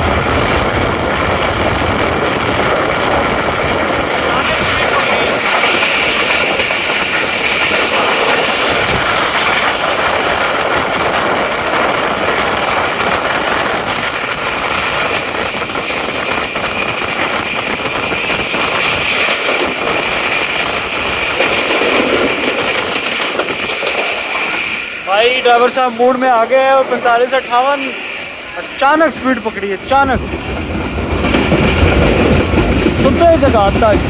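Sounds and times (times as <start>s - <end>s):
train wheel and rail noise: 0.0s - 34.0s.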